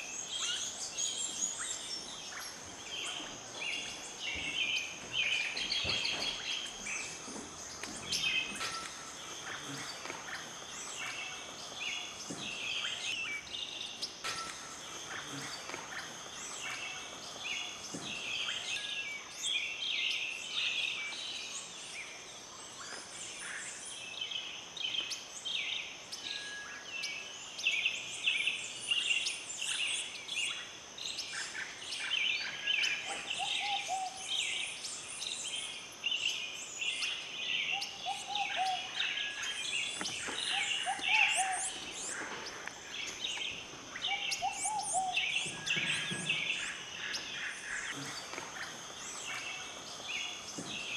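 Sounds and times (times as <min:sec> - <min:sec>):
birds chirping and trilling: 0:00.0 - 0:50.9.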